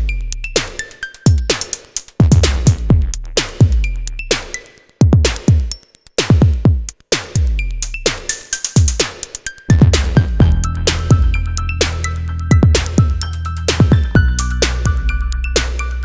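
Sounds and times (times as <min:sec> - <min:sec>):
electronic music with drum machine: 0:00.0 - 0:16.0.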